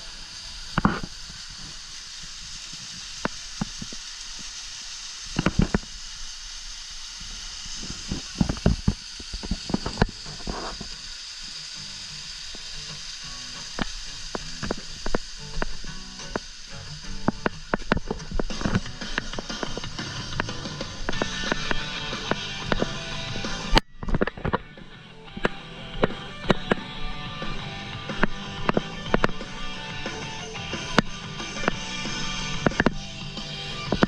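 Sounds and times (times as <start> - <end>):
sharp clicks and knocks: 0.7 - 4.6, 5.3 - 6.0, 7.7 - 33.0.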